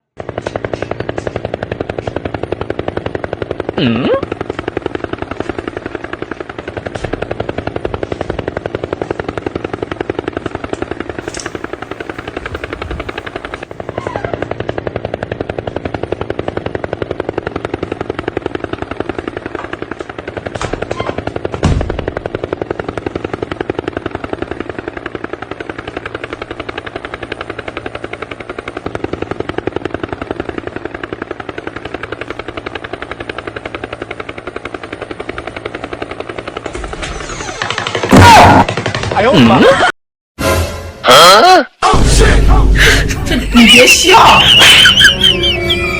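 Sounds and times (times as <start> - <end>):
helicopter rotor chopping: 0.2 - 20.6, 22.2 - 39.9.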